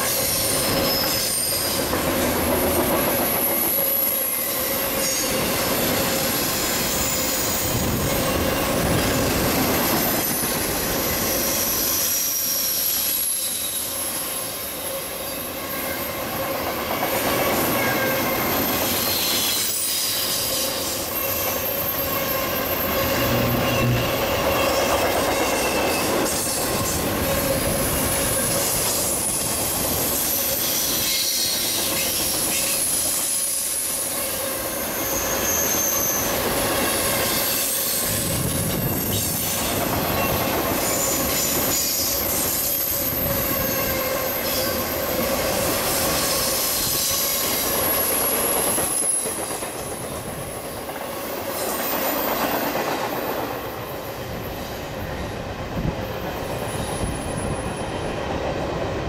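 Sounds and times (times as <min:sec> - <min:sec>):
train wheels squealing: 0:00.0 - 0:58.6
freight train rumbling past: 0:00.0 - 0:59.0.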